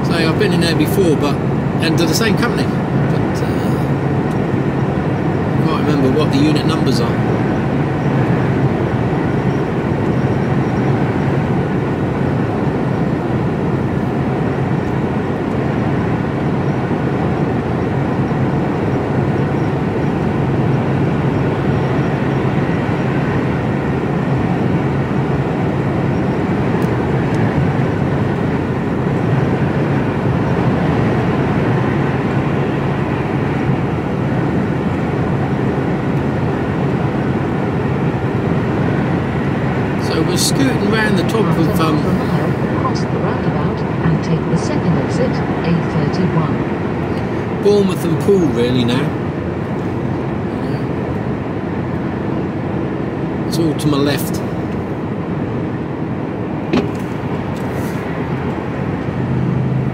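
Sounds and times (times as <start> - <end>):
road and tyre noise: 0.0 - 59.9
truck diesel engine drone: 0.0 - 59.9.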